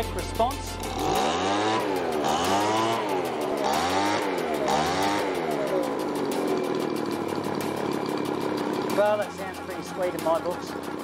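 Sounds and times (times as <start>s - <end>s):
leaf blower engine revving and idling: 0.6s - 11.0s.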